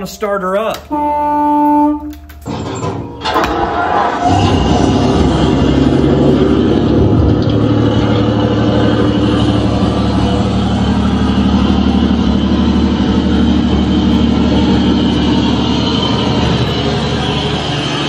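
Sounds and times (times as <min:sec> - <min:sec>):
fire engine motor running: 0:00.0 - 0:18.0.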